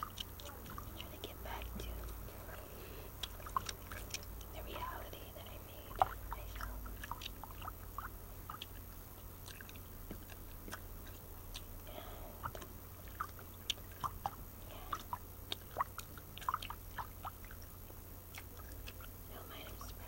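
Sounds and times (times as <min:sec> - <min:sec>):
gum chewing mouth clicks: 0:00.0 - 0:20.0.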